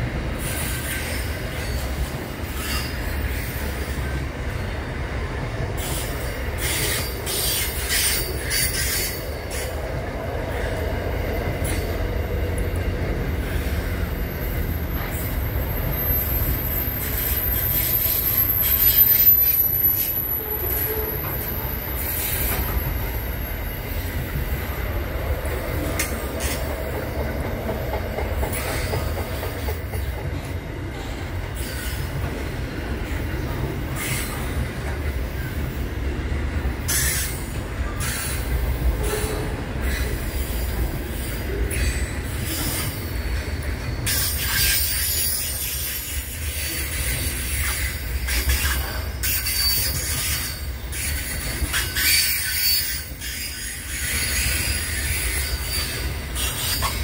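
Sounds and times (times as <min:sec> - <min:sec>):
freight train wagons rumbling: 0:00.0 - 0:57.0
wheels clicking on rails: 0:00.2 - 0:57.0.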